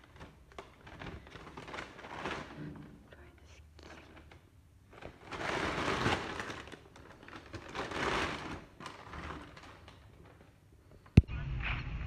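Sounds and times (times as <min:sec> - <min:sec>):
plastic bag rustling: 0:00.0 - 0:11.2.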